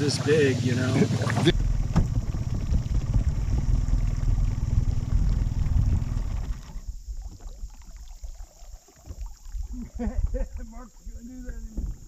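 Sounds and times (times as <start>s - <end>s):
small outboard motor running: 0.0s - 10.9s.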